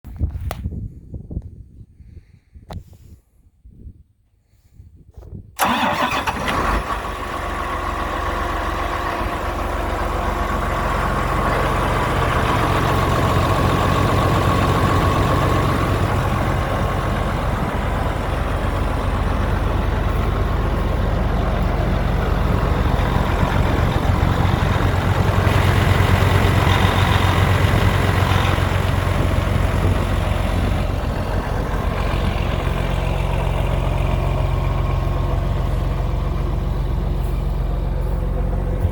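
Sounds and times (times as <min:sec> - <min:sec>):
tractor diesel engine idling: 0:05.6 - 0:38.9.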